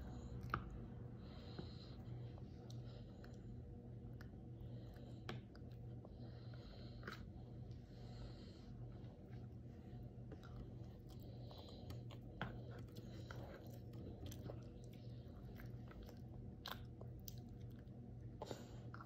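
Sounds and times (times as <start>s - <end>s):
faint low hum: 0.0s - 19.0s
toddler chewing food: 0.0s - 19.0s.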